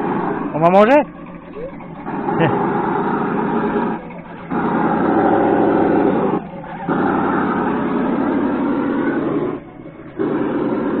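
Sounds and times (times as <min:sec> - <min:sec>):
simulated engine rumble: 0:00.0 - 0:11.0.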